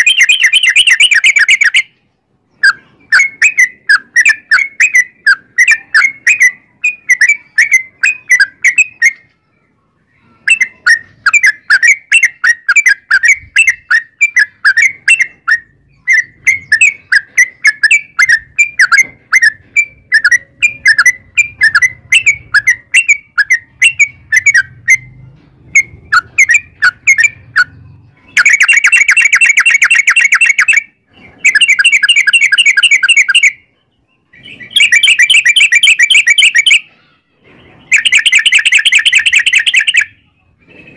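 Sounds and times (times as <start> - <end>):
bird chirps and trills: 0.0 - 40.9.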